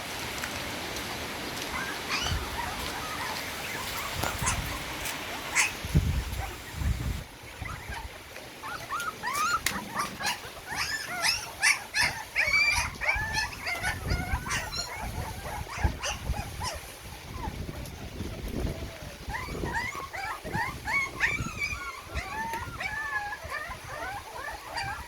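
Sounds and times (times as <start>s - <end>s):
puppies whimpering and squealing: 1.6s - 25.0s.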